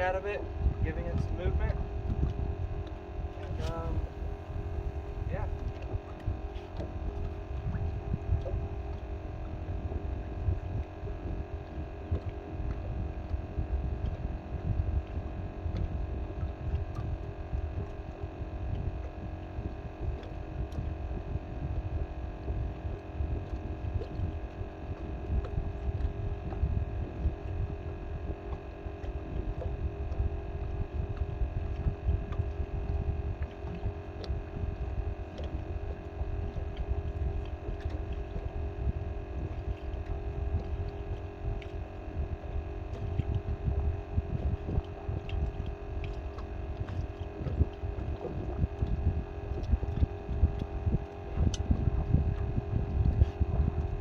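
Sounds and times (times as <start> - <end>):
steady hum of constant tones: 0.0 - 54.0
wind buffeting microphone: 0.0 - 54.0.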